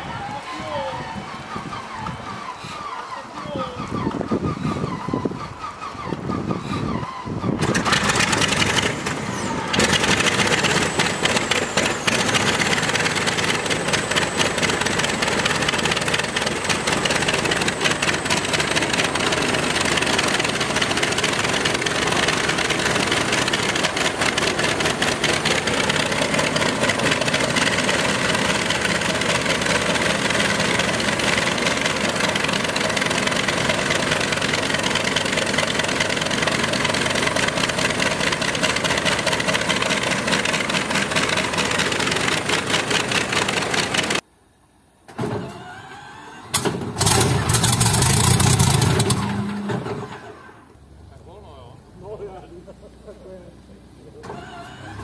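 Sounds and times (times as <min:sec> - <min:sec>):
radial engine starting and running: 0:00.0 - 0:44.2.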